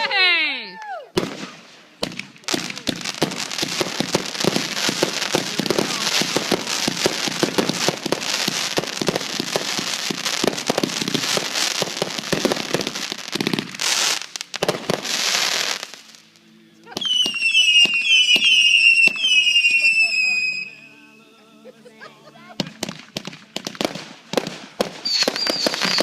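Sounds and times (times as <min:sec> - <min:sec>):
crackling fireworks: 0:00.0 - 0:20.8, 0:22.6 - 0:26.0.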